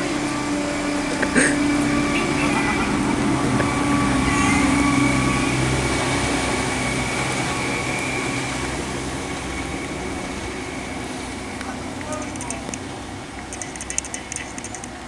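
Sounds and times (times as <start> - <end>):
train running with hum and whine: 0.0 - 15.0.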